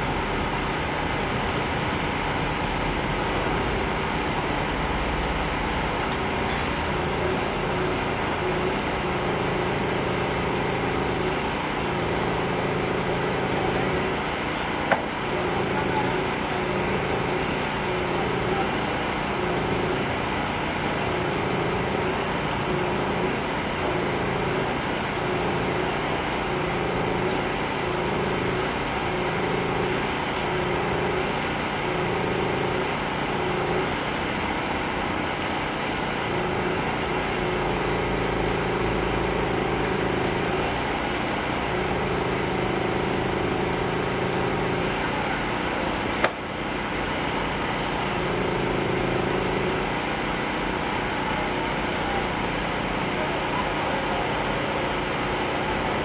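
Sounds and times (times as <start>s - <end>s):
engine running steadily: 0.0s - 56.0s
outdoor background noise: 0.0s - 56.0s.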